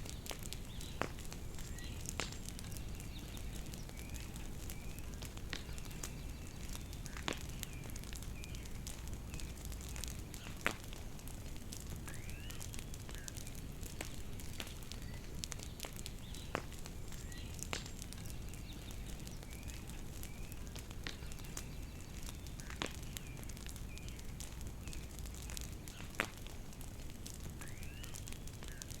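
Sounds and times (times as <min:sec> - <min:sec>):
birds chirping: 0:00.0 - 0:11.0, 0:12.1 - 0:26.5
bonfire crackling and popping: 0:00.0 - 0:29.0.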